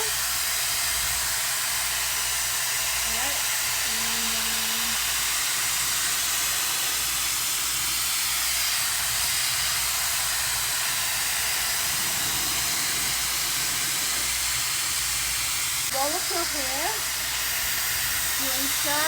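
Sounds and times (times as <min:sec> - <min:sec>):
hair dryer blowing air: 0:00.0 - 0:19.0.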